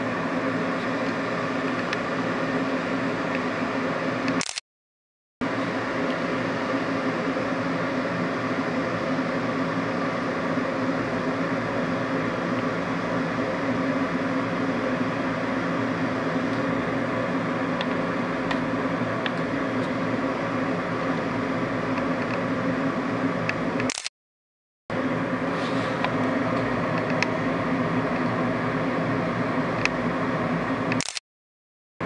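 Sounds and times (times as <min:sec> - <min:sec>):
electric kettle heating water: 0:00.0 - 0:04.4, 0:05.4 - 0:23.8, 0:24.9 - 0:31.0.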